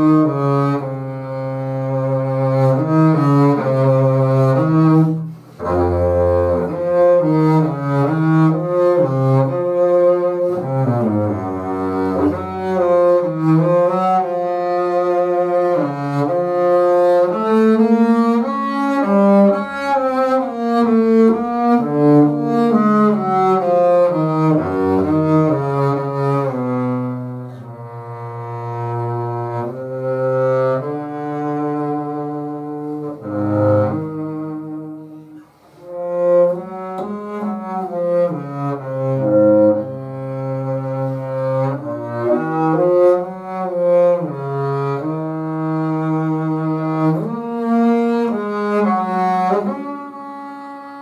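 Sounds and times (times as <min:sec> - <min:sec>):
bowed double bass melody: 0:00.0 - 0:51.0.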